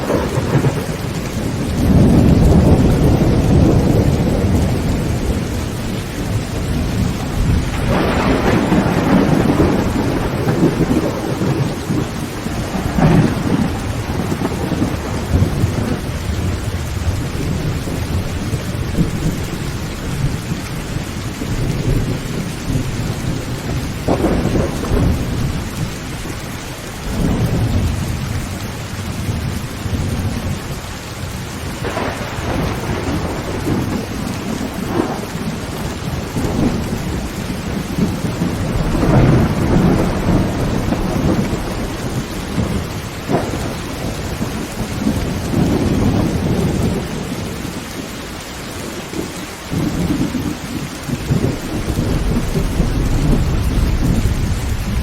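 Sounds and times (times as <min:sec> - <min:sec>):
sharp thunder cracks: 0:00.0 - 0:19.6, 0:21.4 - 0:25.9, 0:31.8 - 0:47.6, 0:49.7 - 0:55.0
heavy rain on a tin roof: 0:00.0 - 0:55.0
thunder rumbling: 0:00.0 - 0:55.0.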